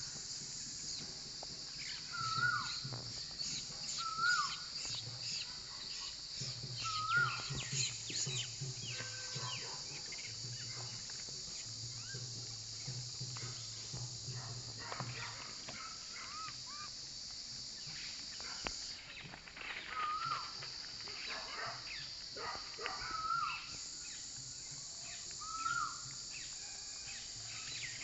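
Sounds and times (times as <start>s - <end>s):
insect chorus hiss: 0.0s - 28.0s
rustles in dry leaf litter: 0.0s - 28.0s.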